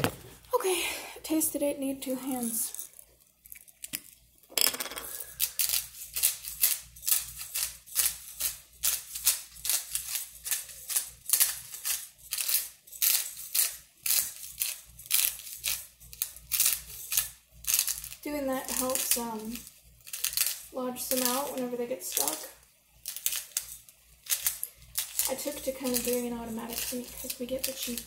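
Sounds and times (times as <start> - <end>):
pepper grinder grinding: 2.0 - 28.0.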